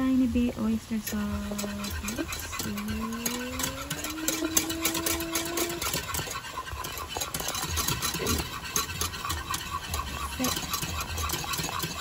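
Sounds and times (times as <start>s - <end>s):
steady low hum: 0.0s - 12.0s
wooden spatula turning food: 0.0s - 12.0s.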